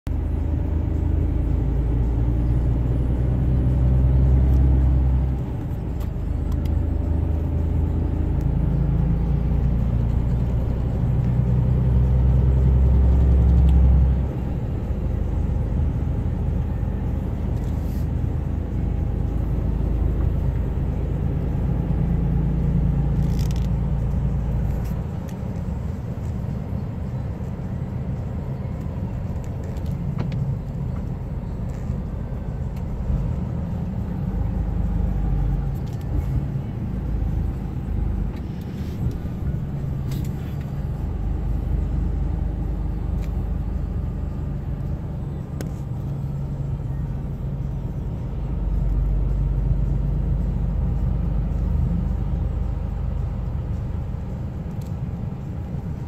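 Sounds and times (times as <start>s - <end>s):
motor vehicle running: 0.1s - 56.0s.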